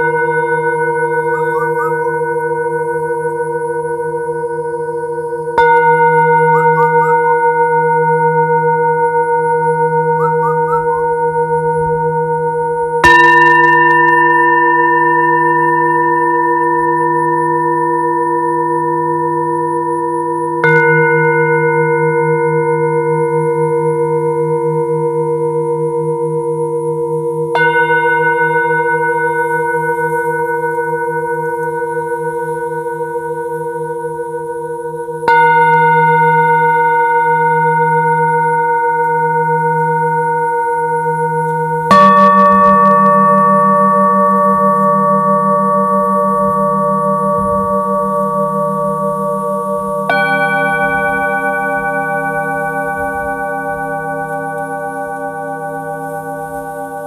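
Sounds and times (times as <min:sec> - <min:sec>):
singing bowls ringing: 0:00.0 - 0:57.0.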